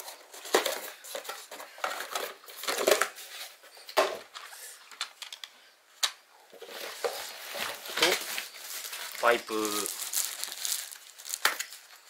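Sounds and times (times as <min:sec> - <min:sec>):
cardboard and plastic wrap rustling: 0:00.0 - 0:04.6, 0:06.5 - 0:12.0.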